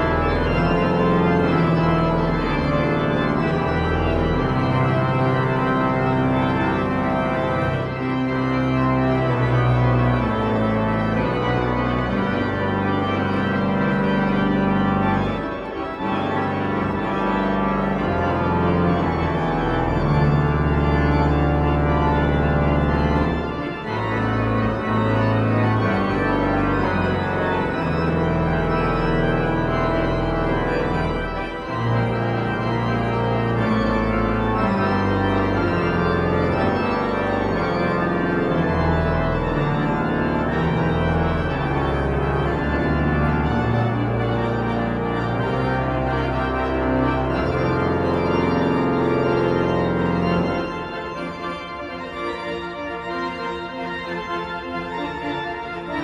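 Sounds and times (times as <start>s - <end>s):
pipe organ chords: 0.0s - 56.0s.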